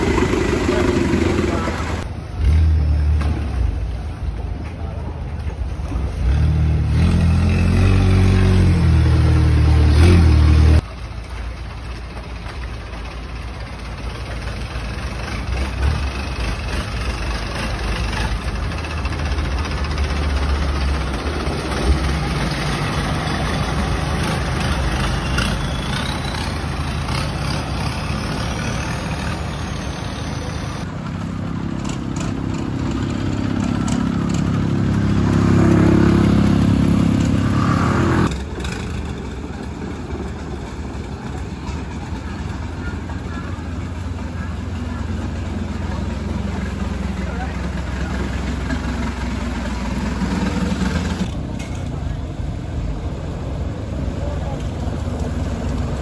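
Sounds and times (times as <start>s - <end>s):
boat engine drone: 0.0s - 6.8s, 7.5s - 56.0s
boat engine rumble: 0.0s - 6.9s, 8.0s - 56.0s
approaching boat engine: 0.0s - 56.0s.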